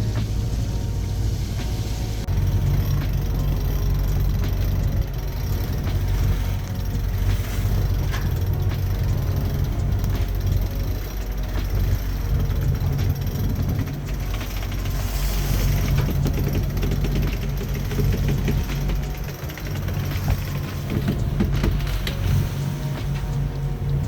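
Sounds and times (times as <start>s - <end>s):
boat engine running: 0.0s - 24.0s
water noise: 0.0s - 24.0s
wind: 0.0s - 24.0s.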